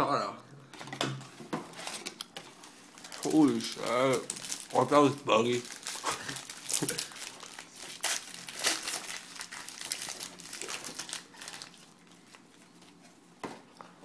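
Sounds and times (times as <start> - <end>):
plastic wrapper crinkling: 1.7 - 13.0.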